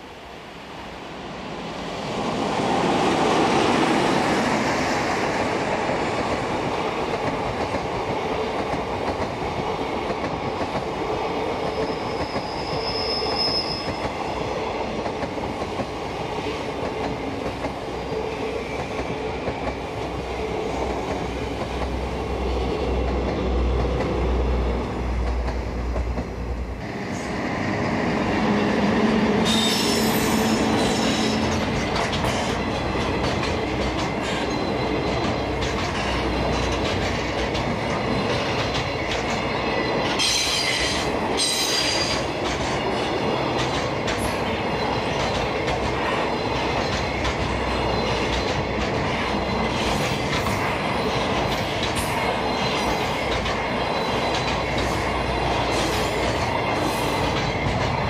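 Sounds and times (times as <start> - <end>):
train wheels clattering on rails: 3.2 - 27.0, 27.8 - 58.0.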